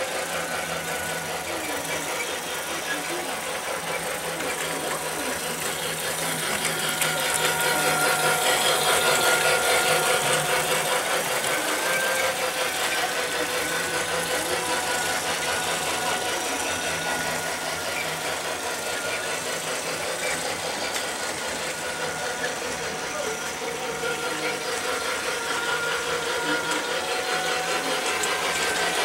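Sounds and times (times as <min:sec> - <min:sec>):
small electric motor whine: 0:00.0 - 0:29.0
wheels rattling on plastic track: 0:00.0 - 0:29.0.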